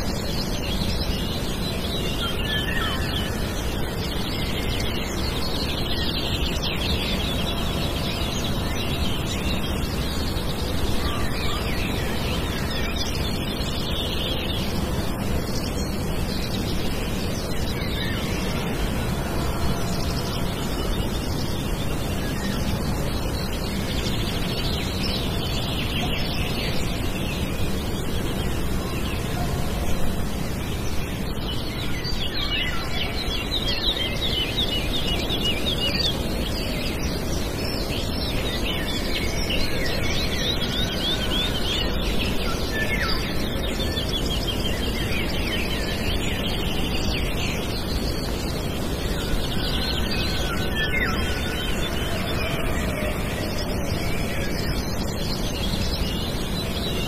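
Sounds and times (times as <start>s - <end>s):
songbirds singing and trilling: 0.0s - 57.0s.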